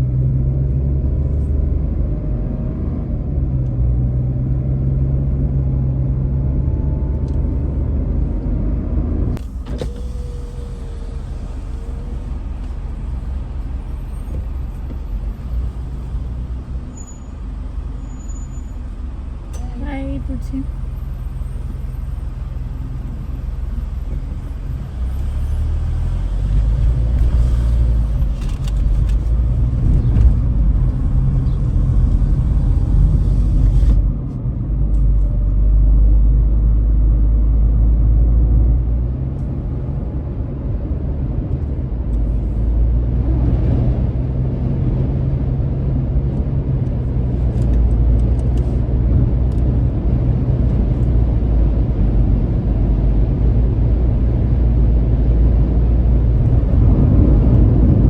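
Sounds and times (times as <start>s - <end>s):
road and wind rumble in car cabin: 0.0s - 58.0s.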